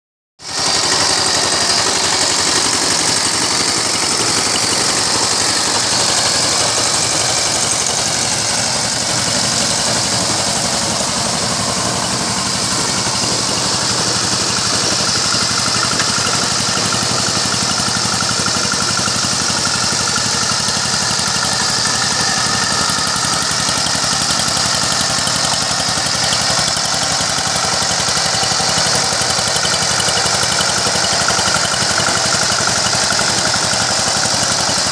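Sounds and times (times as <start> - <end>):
power tiller engine running: 0.4 - 34.9.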